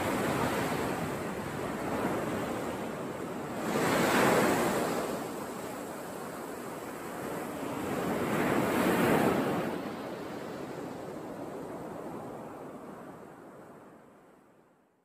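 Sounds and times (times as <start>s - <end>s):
waves breaking on beach: 0.0s - 13.8s.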